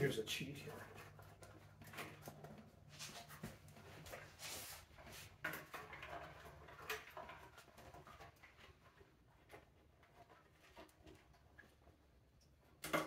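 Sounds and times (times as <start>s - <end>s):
rustling and scraping: 0.0s - 12.2s.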